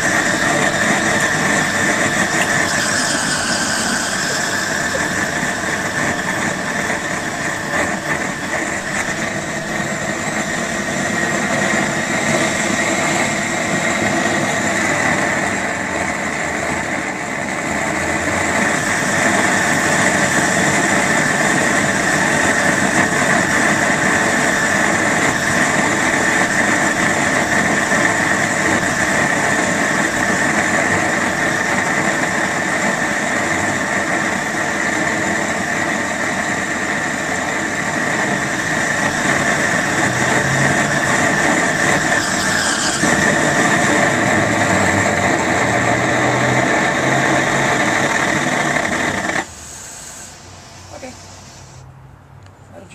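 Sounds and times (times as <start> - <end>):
torch flame rushing with whistle: 0.0 - 51.9.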